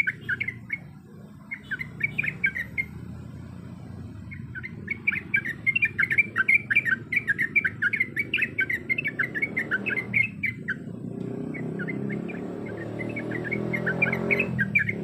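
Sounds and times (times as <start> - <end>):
bulbul singing chattering notes: 0.0 - 15.0.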